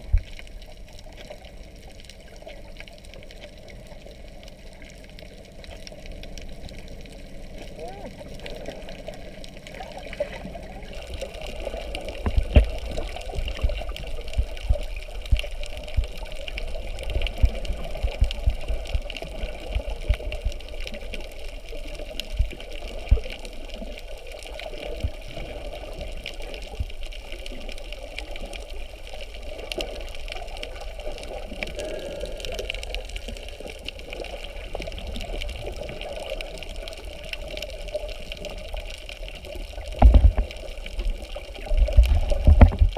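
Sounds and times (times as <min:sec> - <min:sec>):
muffled underwater rush: 0:00.0 - 0:42.9.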